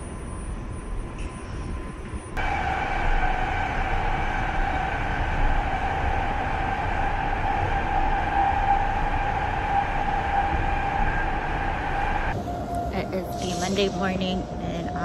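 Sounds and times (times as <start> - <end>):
high-pitched whine: 0.0 - 15.0
train low rumble: 0.0 - 15.0.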